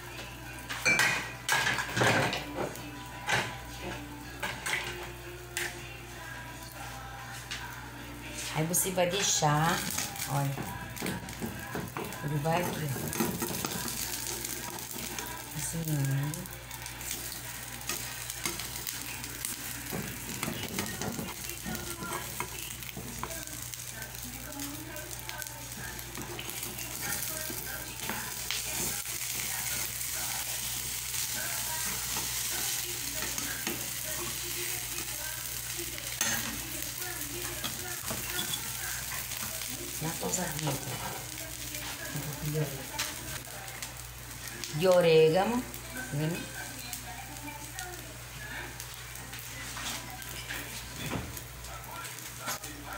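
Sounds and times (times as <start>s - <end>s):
omelette sizzling in a pan: 7.7s - 52.9s.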